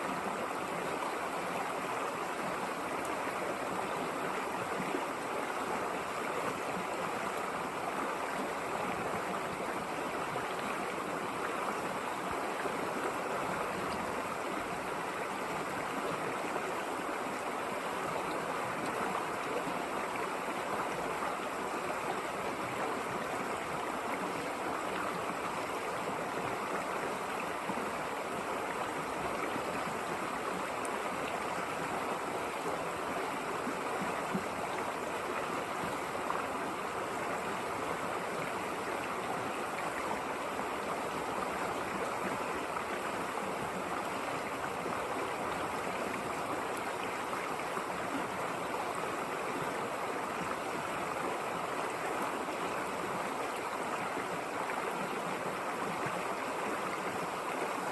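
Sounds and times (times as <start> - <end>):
river rushing over rocks: 0.0 - 57.9.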